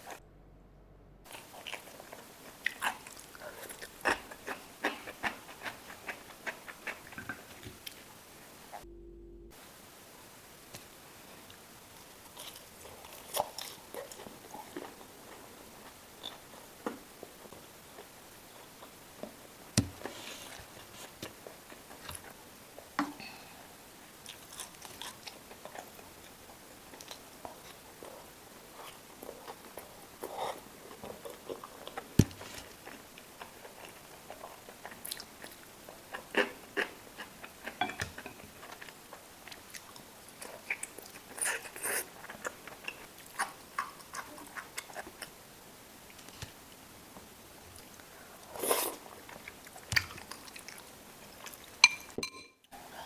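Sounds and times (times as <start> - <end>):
person chewing food: 1.2 - 8.2, 11.4 - 22.9, 24.2 - 45.4, 47.8 - 52.8.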